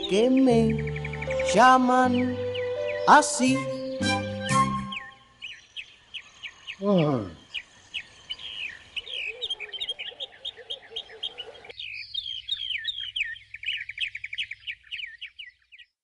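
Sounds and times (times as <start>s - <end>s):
birds chirping and twittering: 0.0s - 16.0s
lower chirping bird voice: 0.0s - 16.0s.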